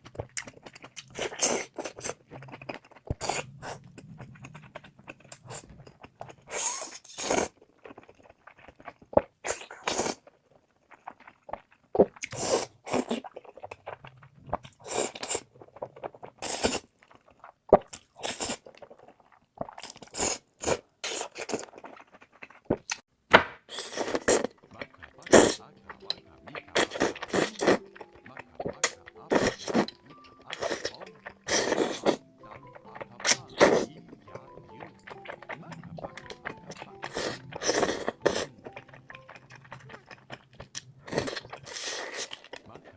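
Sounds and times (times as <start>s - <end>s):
crunching and chewing: 0.0s - 42.9s.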